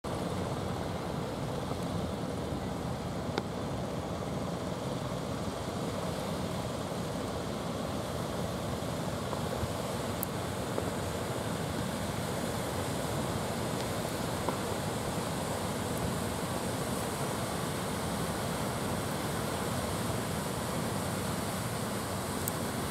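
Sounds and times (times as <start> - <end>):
sea surf washing ashore: 0.0 - 22.9
wind: 0.0 - 22.9.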